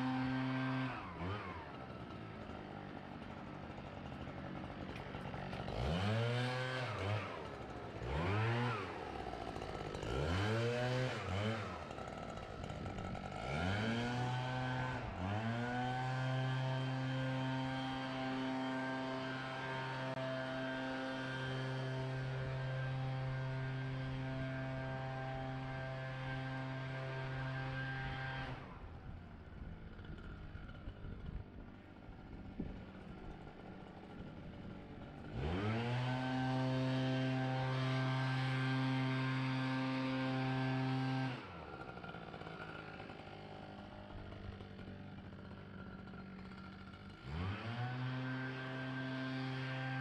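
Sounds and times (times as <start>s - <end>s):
leaf blower running: 0.0s - 50.0s.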